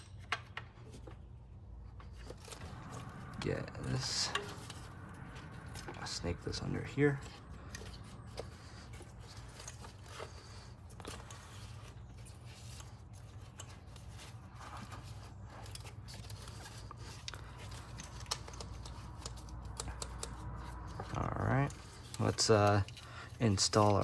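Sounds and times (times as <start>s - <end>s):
steady low hum: 0.0s - 24.0s
rustling and light scraping: 0.4s - 24.0s.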